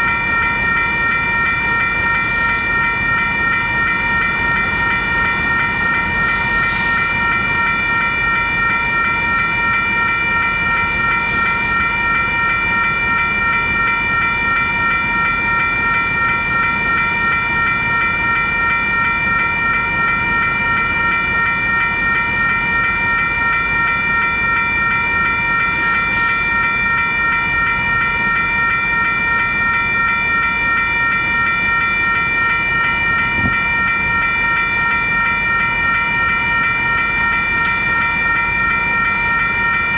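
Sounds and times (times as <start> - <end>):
crossing bell ringing: 0.0 - 39.9
passing train rumble: 0.0 - 39.9.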